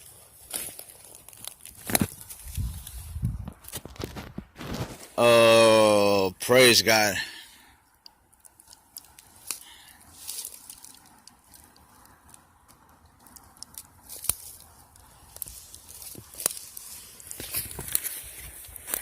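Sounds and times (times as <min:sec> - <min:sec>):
sharp clicks and crackles: 0:00.4 - 0:05.0, 0:07.9 - 0:19.0.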